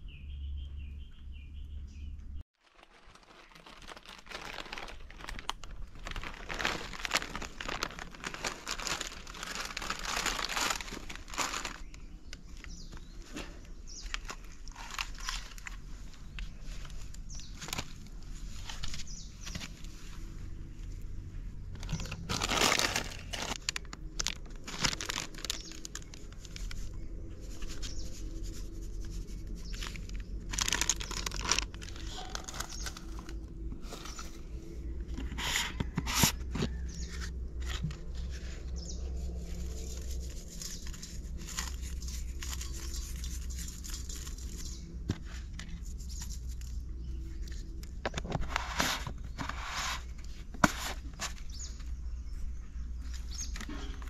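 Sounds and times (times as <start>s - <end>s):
packets rustling and crinkling: 2.6s - 20.4s, 21.6s - 54.0s.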